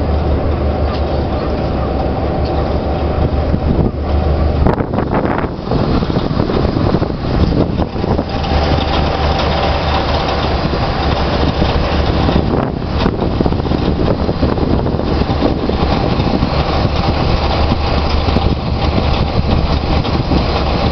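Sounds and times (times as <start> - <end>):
deep steady drone: 0.0 - 20.9
drilling rig machinery: 0.0 - 20.9.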